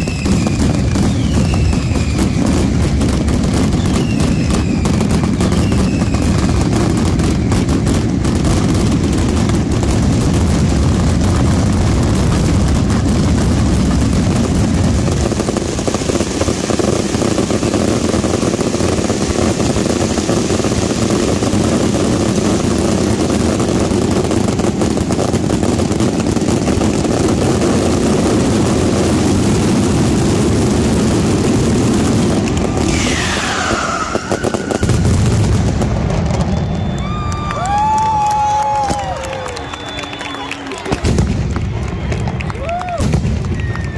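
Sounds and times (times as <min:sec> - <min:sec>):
falling firework whistle: 0:00.0 - 0:43.9
firecrackers and shells exploding: 0:00.0 - 0:43.9.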